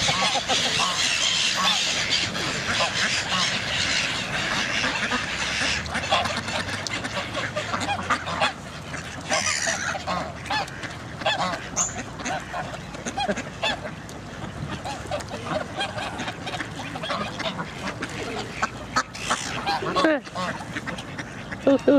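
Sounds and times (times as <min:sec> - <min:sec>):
geese honking: 0:00.0 - 0:13.8, 0:14.8 - 0:21.9
ducks quacking: 0:00.0 - 0:21.9.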